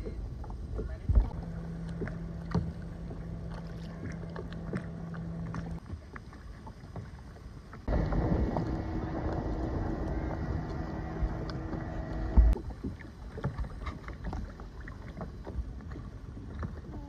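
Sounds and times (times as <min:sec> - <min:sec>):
kayak paddle splashes: 0:00.0 - 0:17.0
low rumble: 0:00.0 - 0:17.0.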